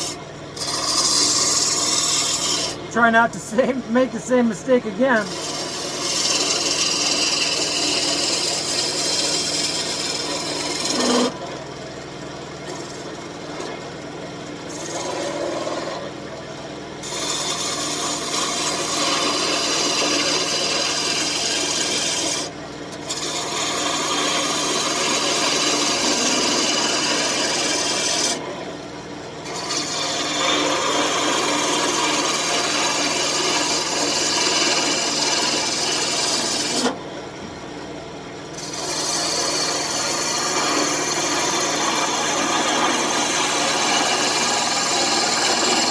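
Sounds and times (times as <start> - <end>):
wood lathe tool scraping: 0.0 - 3.1, 5.2 - 11.4, 14.7 - 16.1, 17.0 - 28.5, 29.4 - 37.0, 38.5 - 45.9.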